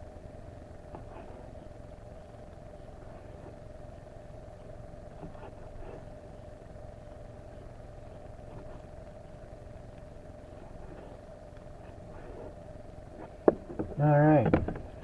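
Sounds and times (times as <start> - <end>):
camp stove burner rumbling: 0.0 - 15.0.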